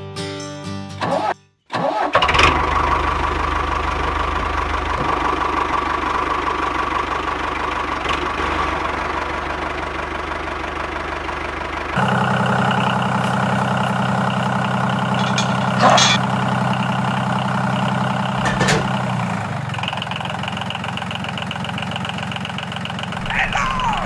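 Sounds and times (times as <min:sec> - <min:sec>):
small diesel engine running: 0:01.8 - 0:24.0.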